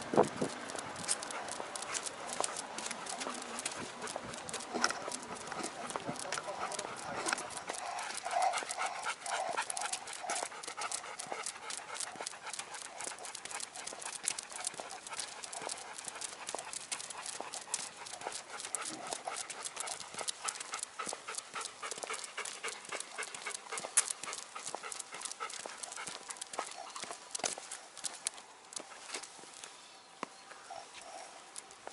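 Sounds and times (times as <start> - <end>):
dogs panting: 0.0 - 29.4, 30.7 - 31.9
claws clicking on asphalt: 0.0 - 31.9.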